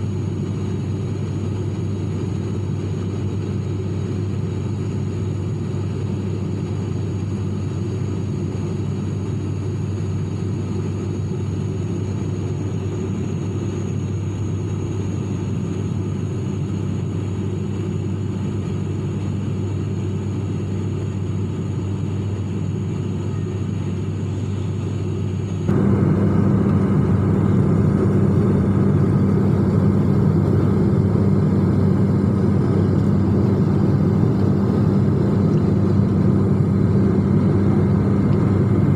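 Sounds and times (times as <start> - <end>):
airliner cabin engine drone: 0.0 - 38.9.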